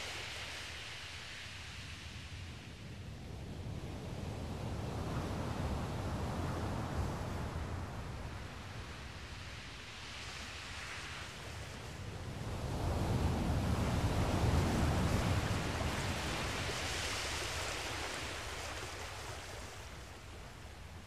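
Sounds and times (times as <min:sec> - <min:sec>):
rushing wind and surf: 0:00.0 - 0:21.0.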